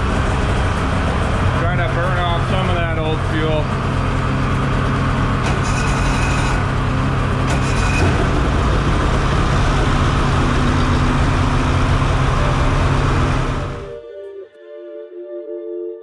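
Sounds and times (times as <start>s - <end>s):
snowmobile engine idling: 0.0s - 14.0s.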